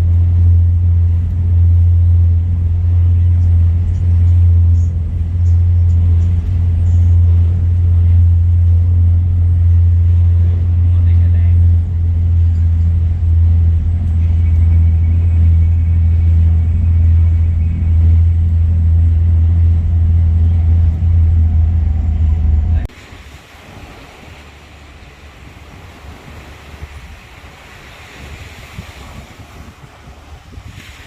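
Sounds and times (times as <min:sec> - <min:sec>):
low engine drone: 0:00.0 - 0:31.0
surf: 0:00.0 - 0:31.0
wind: 0:00.0 - 0:31.0.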